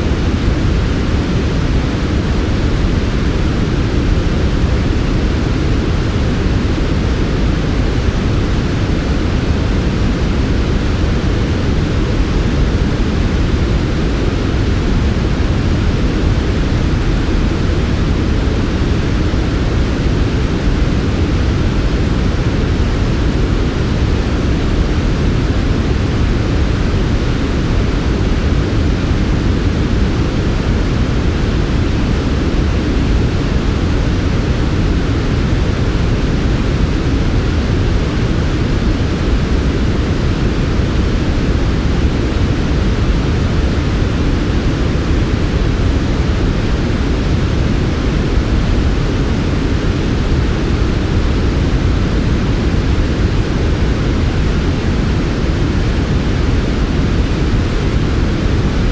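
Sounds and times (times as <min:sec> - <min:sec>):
low white noise: 0:00.0 - 0:58.9.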